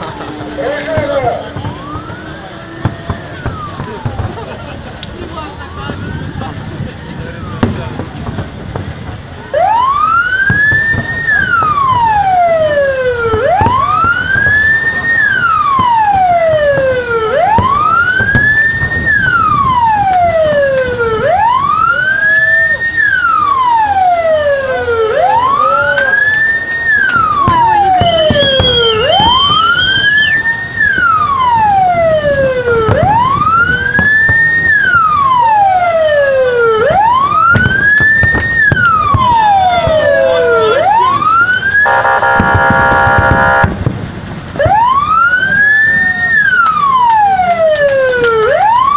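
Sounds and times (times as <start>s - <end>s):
siren wailing: 0.0s - 8.4s, 9.4s - 43.9s, 44.6s - 48.9s
high steady siren tone: 0.0s - 48.9s.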